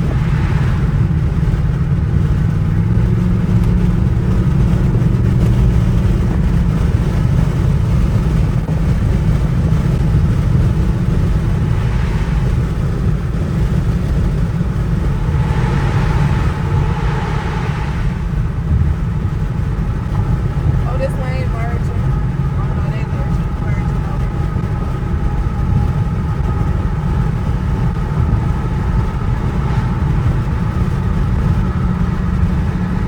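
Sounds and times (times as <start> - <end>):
car engine rumbling while driving: 0.0 - 33.0.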